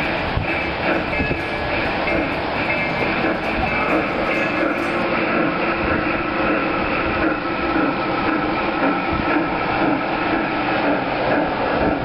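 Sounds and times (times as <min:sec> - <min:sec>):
model steam locomotive sounds: 0:00.0 - 0:12.0.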